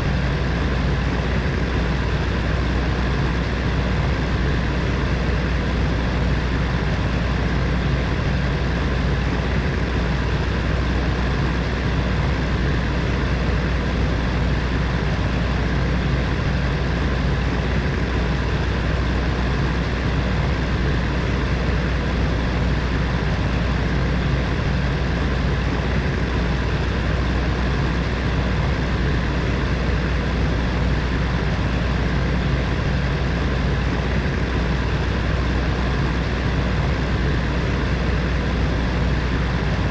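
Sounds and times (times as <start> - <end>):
faint motor drone: 0.0 - 39.9.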